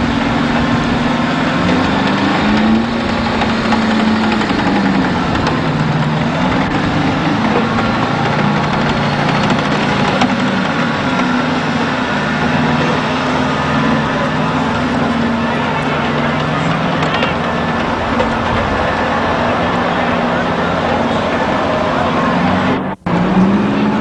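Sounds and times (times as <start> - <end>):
large vehicle engine running: 0.0 - 24.0.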